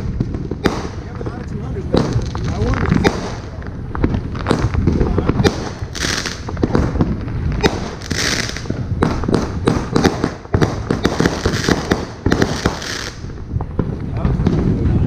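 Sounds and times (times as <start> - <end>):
firework bangs: 0.0 - 15.0
hissing crackle: 0.0 - 15.0.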